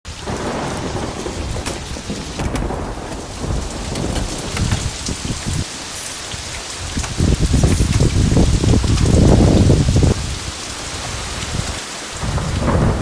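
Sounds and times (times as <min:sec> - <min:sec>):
heavy rain pouring: 0:00.1 - 0:13.0.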